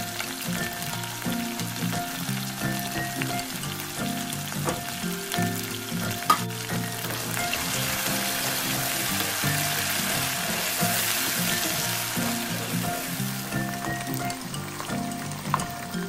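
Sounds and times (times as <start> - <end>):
food sizzling in oil: 0.0 - 16.0
soft background music: 0.0 - 16.0.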